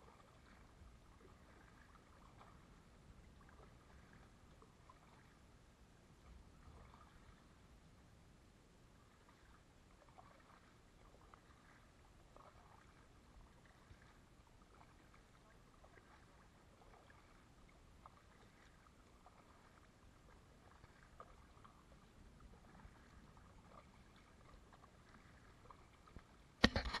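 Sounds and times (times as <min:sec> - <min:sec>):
paddle drips and splashes: 0:00.0 - 0:27.0.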